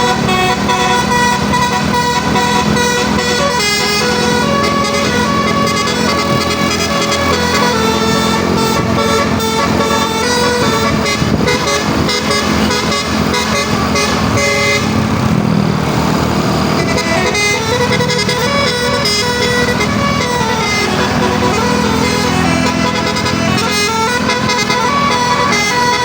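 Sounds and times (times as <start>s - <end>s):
multi-tone air horns playing a tune: 0.0s - 15.1s, 16.7s - 26.0s
bus engine running: 0.0s - 26.0s.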